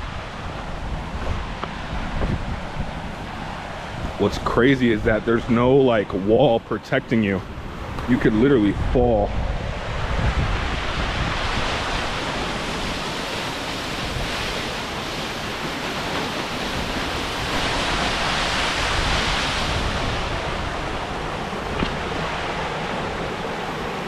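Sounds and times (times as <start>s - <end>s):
waterfall rushing: 0.0s - 24.0s
wind buffeting microphone: 0.0s - 24.0s.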